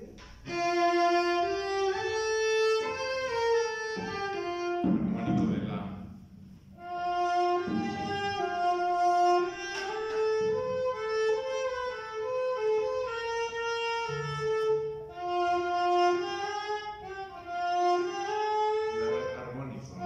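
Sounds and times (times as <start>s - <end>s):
bowed cello melody: 0.2s - 20.0s.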